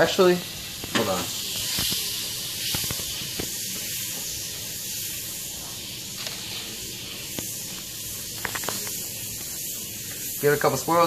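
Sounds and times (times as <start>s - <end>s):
butter sizzling in a frying pan: 0.0s - 11.0s
stove fan humming: 0.0s - 11.0s.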